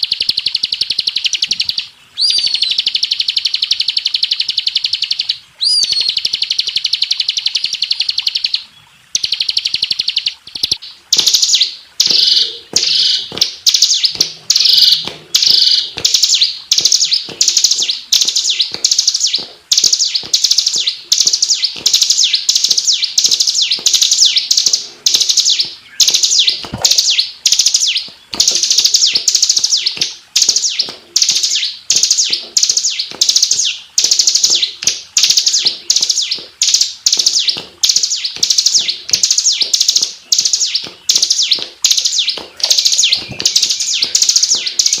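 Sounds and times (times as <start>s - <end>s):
bird singing fast trills: 0.0s - 45.0s.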